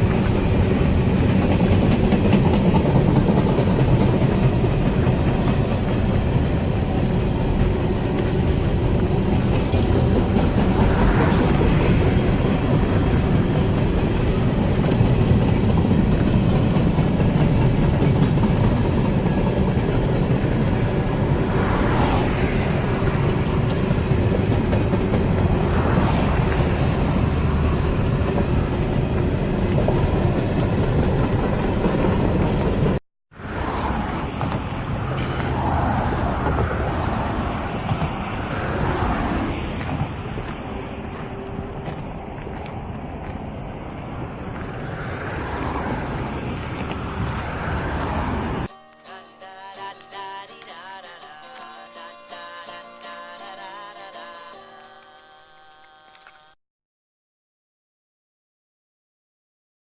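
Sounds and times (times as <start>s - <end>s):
train rumbling past: 0.0s - 50.9s.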